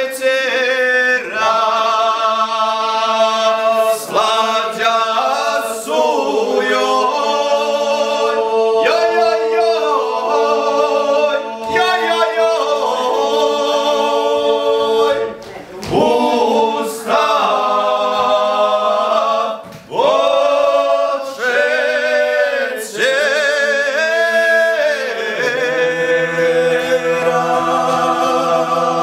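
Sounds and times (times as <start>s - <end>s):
men singing unaccompanied: 0.0s - 29.0s.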